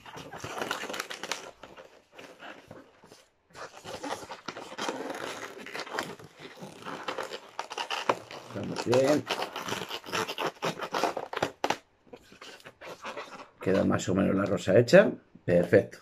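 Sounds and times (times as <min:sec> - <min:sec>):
balloons squeezed and twisted: 0:00.0 - 0:14.6.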